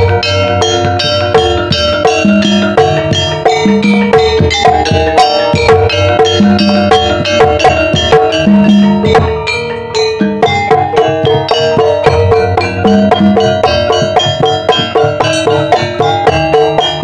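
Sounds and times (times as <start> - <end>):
drum strokes: 0.0 - 17.0
gamelan ensemble playing: 0.0 - 17.0.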